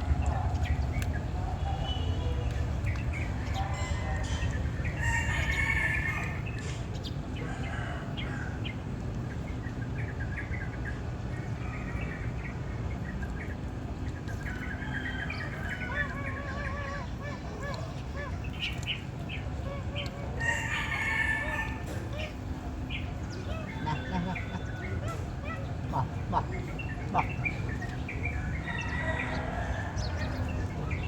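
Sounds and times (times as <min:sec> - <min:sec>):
birds chirping and calling: 0:00.0 - 0:31.0.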